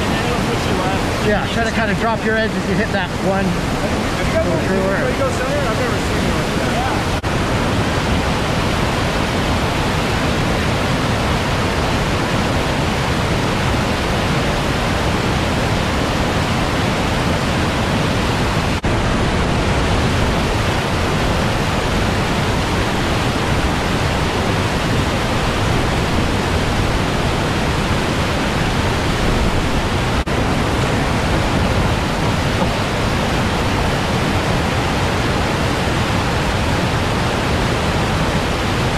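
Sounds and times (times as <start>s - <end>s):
whitewater rapid rushing: 0.0s - 38.9s.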